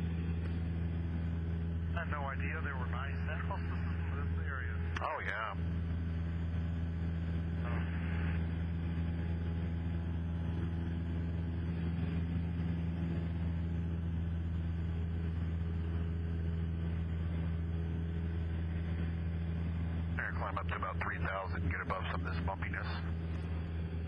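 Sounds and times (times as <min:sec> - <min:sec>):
aircraft engine and propeller droning: 0:00.0 - 0:24.0.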